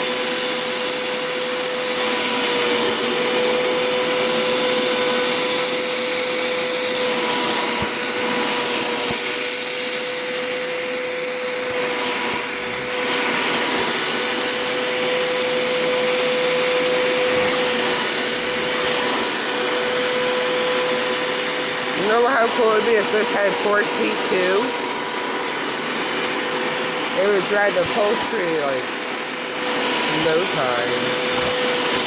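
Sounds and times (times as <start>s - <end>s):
carpet cleaner motor whine: 0.0s - 32.0s.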